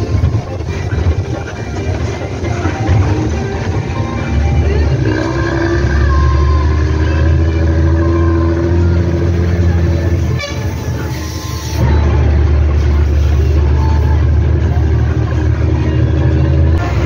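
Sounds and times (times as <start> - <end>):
bus diesel engine growling: 0.0 - 17.0.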